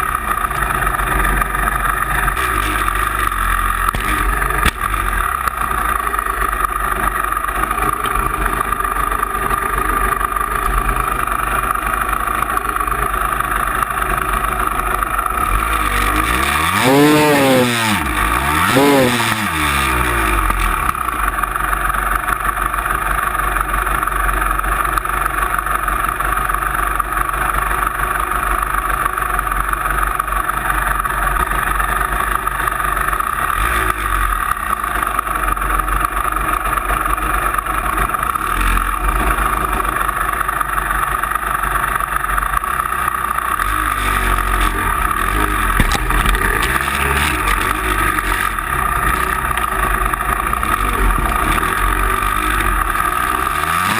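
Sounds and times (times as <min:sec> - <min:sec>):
vehicle engine running while driving: 0:00.0 - 0:53.9.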